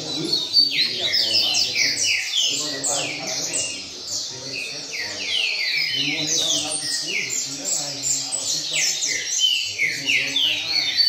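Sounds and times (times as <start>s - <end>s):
bird singing rapid high notes: 0.0s - 11.0s.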